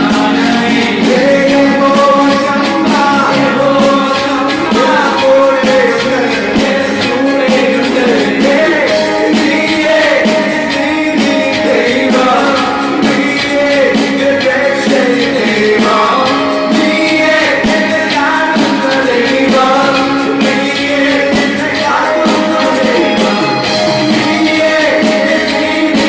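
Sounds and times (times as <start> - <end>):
drums: 0.0 - 26.0
keyboard: 0.0 - 26.0
person singing: 0.0 - 26.0.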